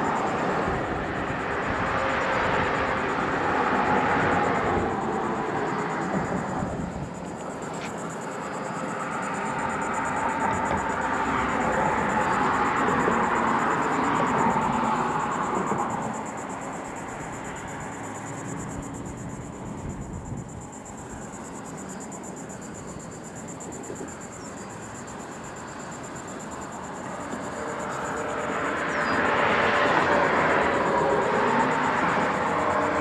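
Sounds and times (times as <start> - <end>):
road traffic: 0.0 - 33.0.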